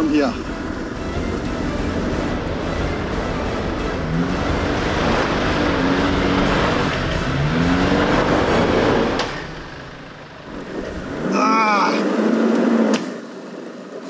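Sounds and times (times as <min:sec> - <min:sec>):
tyres on gravel: 0:00.1 - 0:11.5
engine revving under load: 0:00.4 - 0:13.3.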